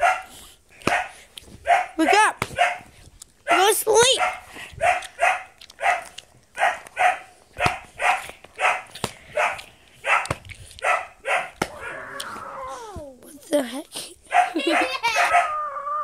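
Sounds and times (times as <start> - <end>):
dog barking: 0.0 - 12.0, 14.3 - 15.6.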